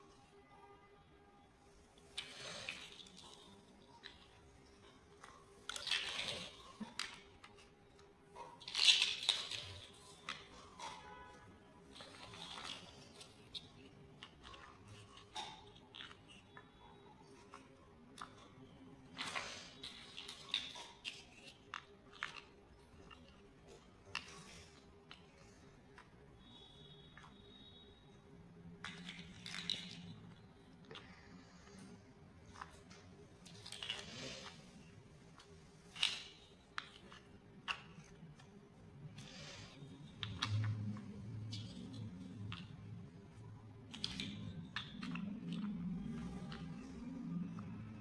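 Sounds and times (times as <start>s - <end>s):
plastic rustling: 1.6s - 48.0s
plastic blocks clicking: 2.0s - 48.0s.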